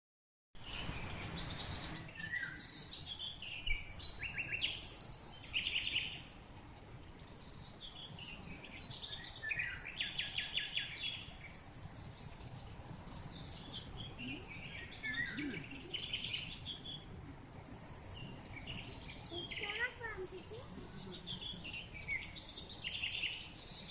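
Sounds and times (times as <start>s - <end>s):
songbirds chirping and trilling: 0.6s - 23.9s.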